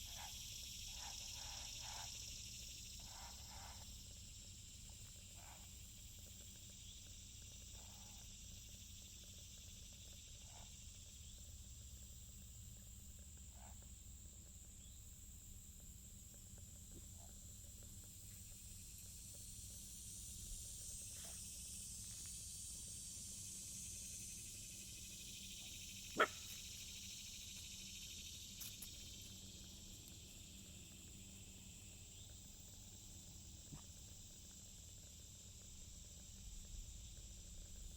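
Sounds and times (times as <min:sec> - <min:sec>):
insect trill: 0:00.0 - 0:37.9.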